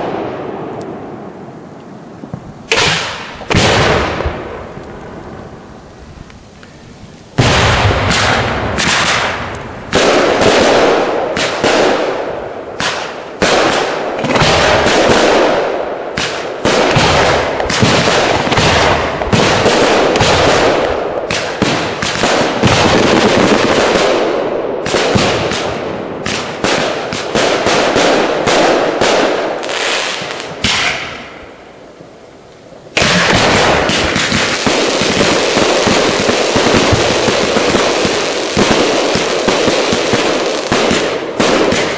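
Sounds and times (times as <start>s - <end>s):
fireworks bursts and bangs: 2.2s - 4.8s, 7.3s - 31.5s, 32.9s - 41.9s.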